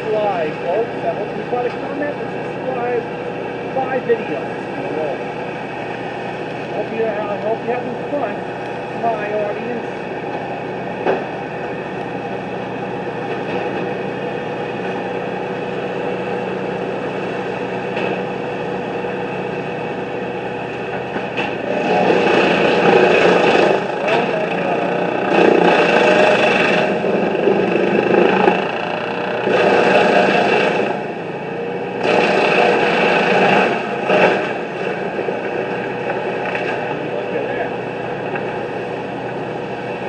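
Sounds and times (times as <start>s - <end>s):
engine-driven equipment running: 0.0s - 40.0s.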